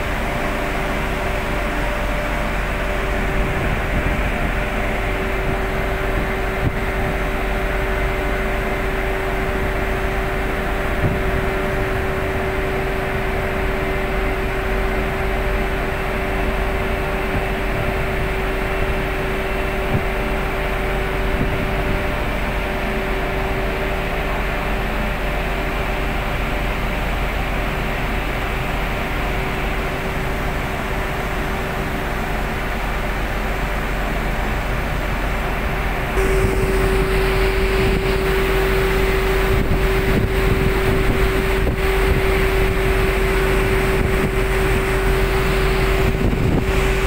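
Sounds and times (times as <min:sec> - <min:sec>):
constant hum: 0:00.0 - 0:47.0
ship machinery drone: 0:00.0 - 0:47.0.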